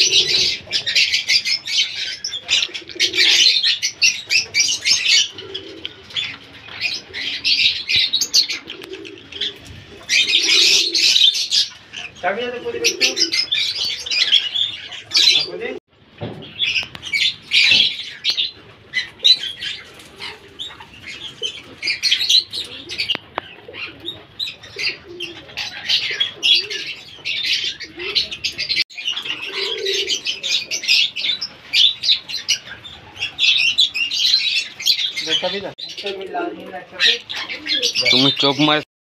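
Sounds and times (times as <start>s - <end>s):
conures chirping: 0.0s - 15.8s, 16.4s - 38.8s.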